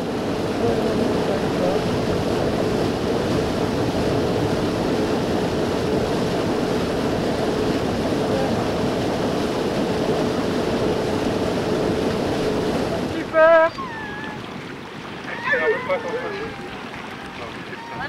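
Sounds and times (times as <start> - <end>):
boat engine drone: 0.0 - 18.0
water rushing along hull: 0.0 - 18.0
wind on microphone: 0.0 - 18.0.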